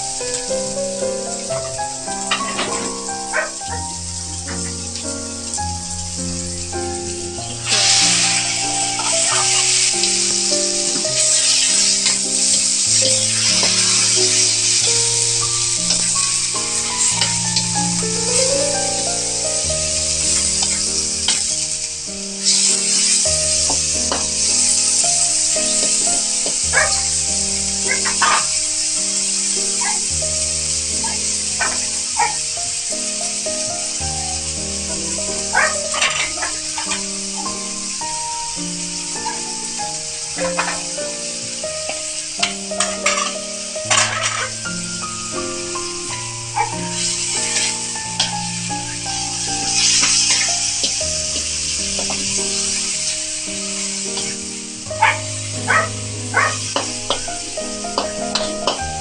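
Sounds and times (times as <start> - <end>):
background music with held chords: 0.0 - 59.0
chicken sizzling in hot oil: 0.0 - 59.0.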